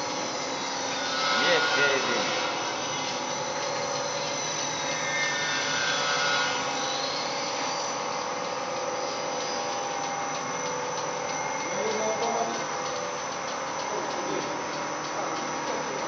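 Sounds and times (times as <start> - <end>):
machine whirring: 0.0 - 16.0
motor whine: 0.0 - 16.0.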